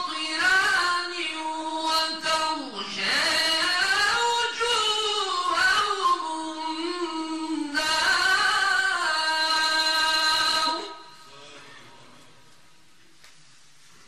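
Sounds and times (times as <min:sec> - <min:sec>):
man reciting melodically into microphone: 0:00.0 - 0:12.6.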